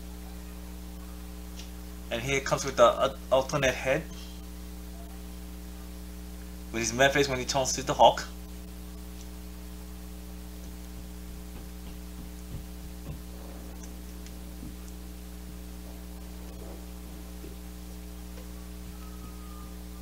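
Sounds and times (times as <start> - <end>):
low electrical mains hum: 0.0 - 20.0.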